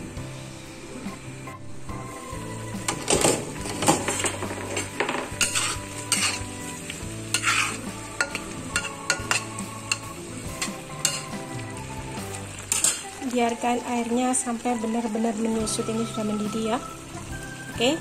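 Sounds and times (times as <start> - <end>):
sauce boiling and sizzling in wok: 0.0 - 18.0.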